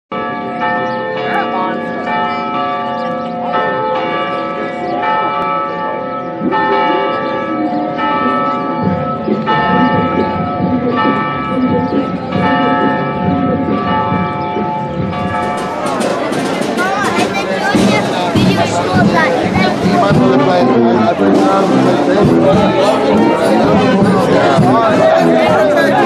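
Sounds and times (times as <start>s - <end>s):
church bells ringing: 0.1s - 26.0s
murmur of voices: 0.1s - 26.0s.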